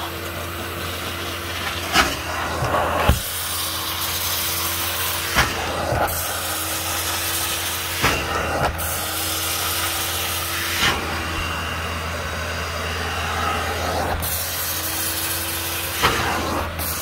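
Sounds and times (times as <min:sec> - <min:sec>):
vacuum motor running: 0:00.0 - 0:17.0
tool drawn over carpet: 0:01.9 - 0:17.0.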